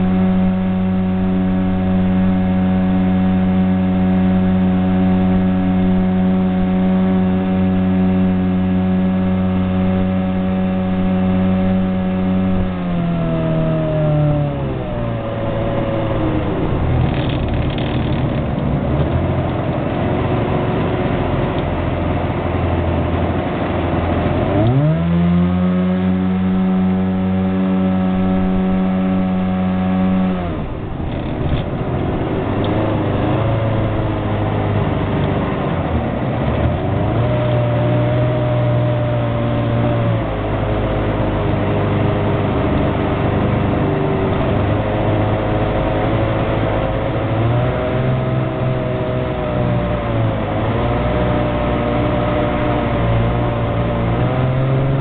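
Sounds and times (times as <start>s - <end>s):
jet boat engine revving: 0.0s - 55.0s.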